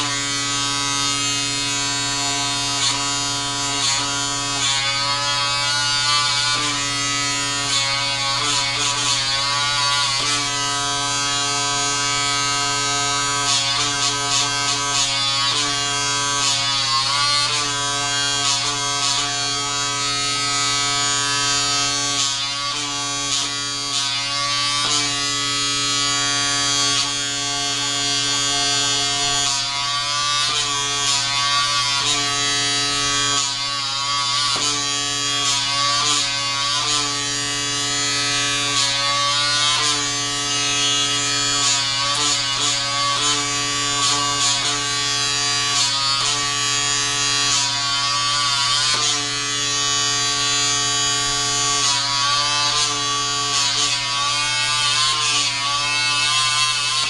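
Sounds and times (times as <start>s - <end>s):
small vacuum motor humming: 0.0s - 57.0s.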